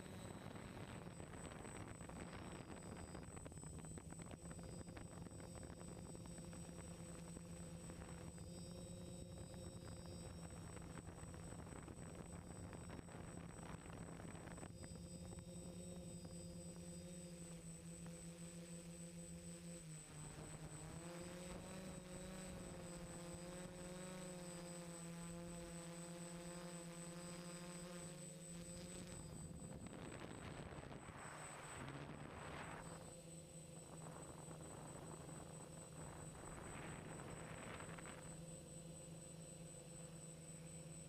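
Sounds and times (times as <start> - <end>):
drone motors humming: 0.0 - 41.0
thin high whine: 0.0 - 41.0.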